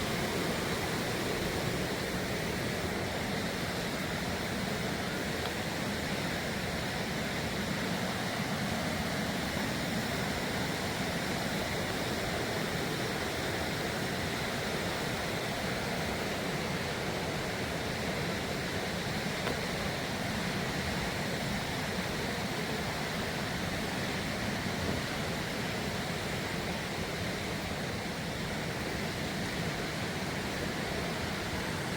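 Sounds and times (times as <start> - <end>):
flowing water rushing: 0.0 - 31.9.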